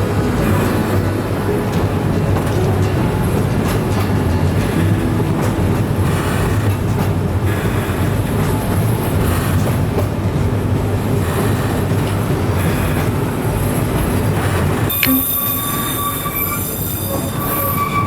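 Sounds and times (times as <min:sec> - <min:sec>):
train wheels rumbling on track: 0:00.0 - 0:14.9.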